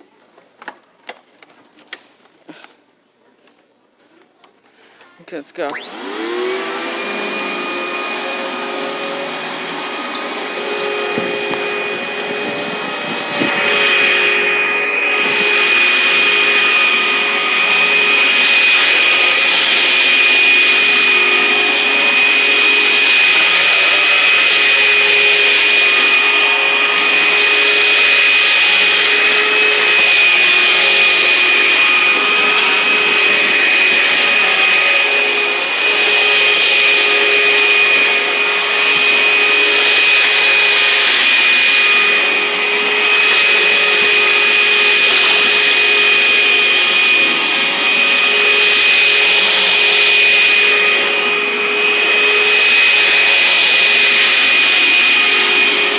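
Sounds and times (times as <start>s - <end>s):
vacuum cleaner motor whine: 5.6s - 55.9s.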